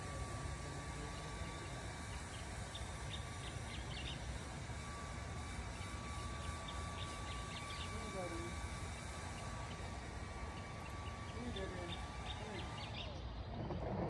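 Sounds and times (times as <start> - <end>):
thin steady hum: 0.0 - 14.0.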